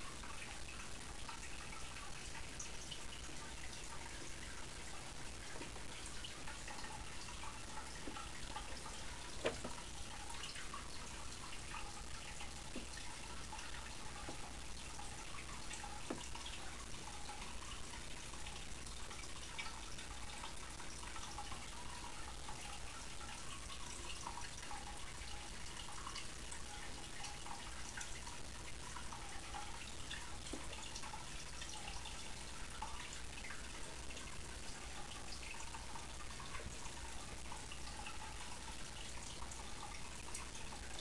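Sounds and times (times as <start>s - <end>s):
water dripping plinks: 0.0s - 41.0s
water trickling hiss: 0.0s - 41.0s.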